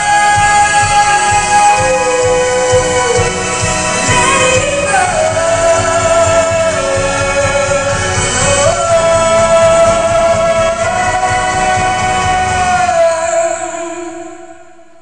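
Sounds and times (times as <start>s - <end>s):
orchestra playing: 0.0s - 14.2s
woman singing long notes: 0.0s - 15.0s.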